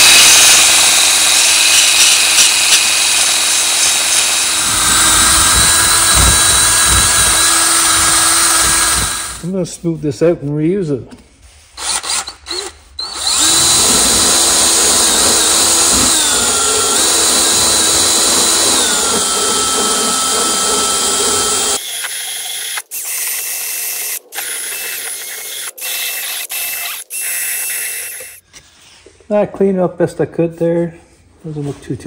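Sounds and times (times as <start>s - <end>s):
cordless drill grinding metal: 0.0s - 9.5s, 11.8s - 28.4s.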